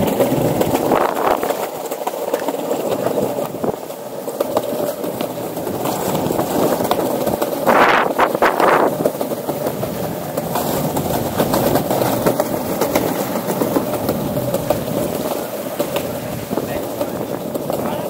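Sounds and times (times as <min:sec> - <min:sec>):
rush of noise: 0:00.0 - 0:18.0
skateboard wheels rolling on planks: 0:00.0 - 0:18.0.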